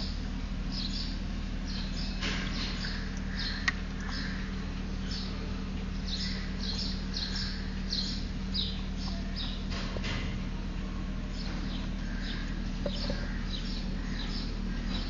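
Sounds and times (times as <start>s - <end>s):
small bird chirping: 0.0s - 9.8s, 11.3s - 15.0s
steady low hum: 0.0s - 15.0s.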